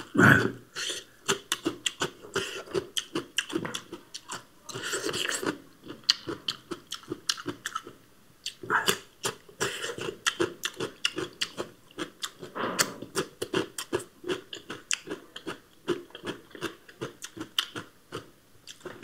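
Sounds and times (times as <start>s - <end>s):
chewing crisp raw vegetables: 0.0s - 19.0s.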